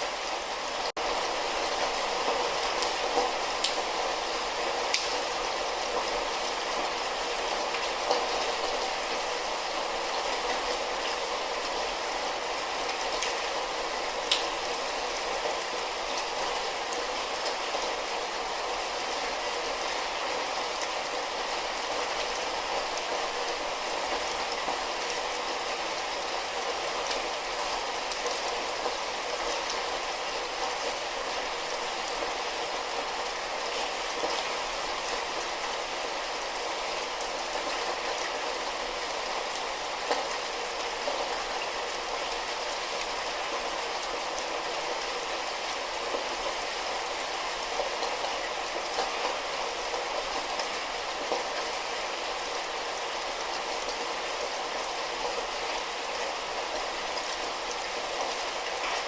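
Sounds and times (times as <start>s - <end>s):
light rain hissing: 0.0s - 59.0s.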